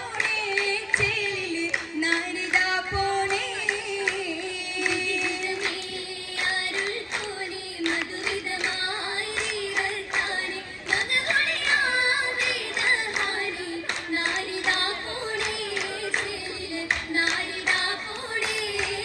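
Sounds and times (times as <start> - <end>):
girls singing in unison: 0.0 - 19.0
group hand claps: 0.0 - 19.0.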